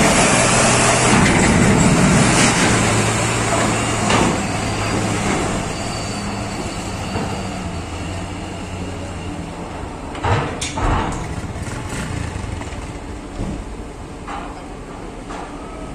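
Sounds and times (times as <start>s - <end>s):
truck engine running at low revs: 0.0s - 15.2s.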